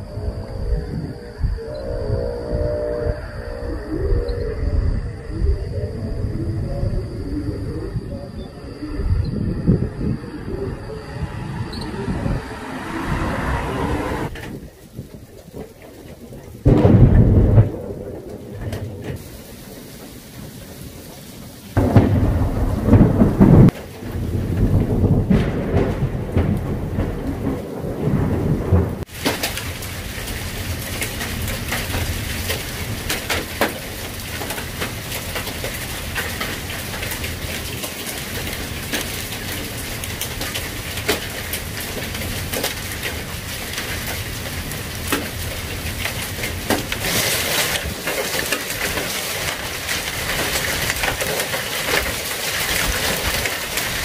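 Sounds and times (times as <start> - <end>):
heavy rain: 0.0 - 54.0
thunder rumbling: 0.0 - 54.0.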